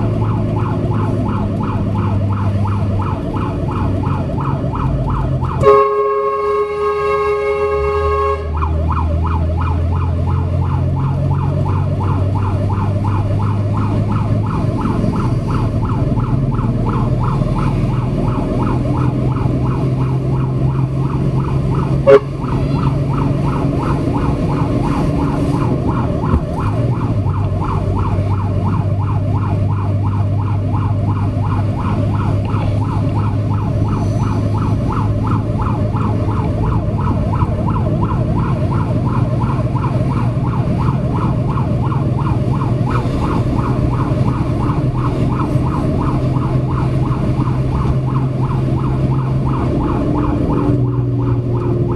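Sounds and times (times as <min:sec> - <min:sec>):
siren yelping: 0:00.0 - 0:51.9
truck engine running: 0:00.0 - 0:51.9.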